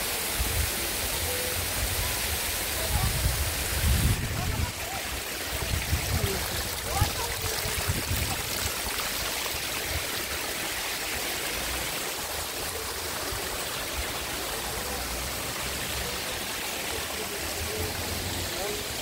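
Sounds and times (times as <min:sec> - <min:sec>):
waterfall splashing over rocks: 0:00.0 - 0:19.0.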